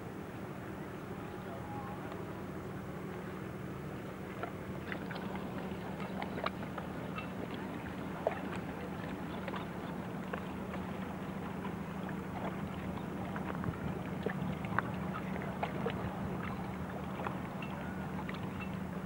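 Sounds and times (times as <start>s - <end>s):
water lapping and splashing: 0.4s - 19.0s.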